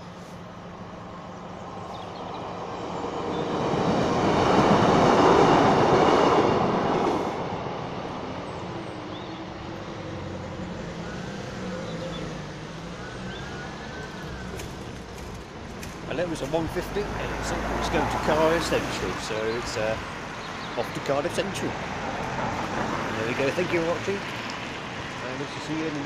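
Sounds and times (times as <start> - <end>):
diesel train passing: 0.0 - 26.0.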